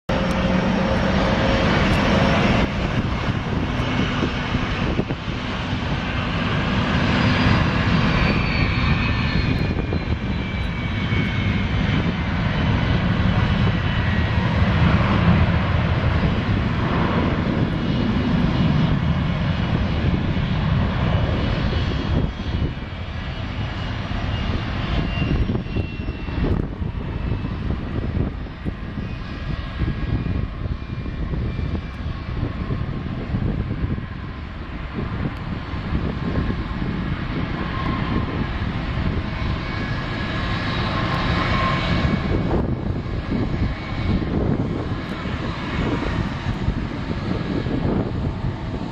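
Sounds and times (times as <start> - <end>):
jet engine rumble and whine: 0.0 - 48.9.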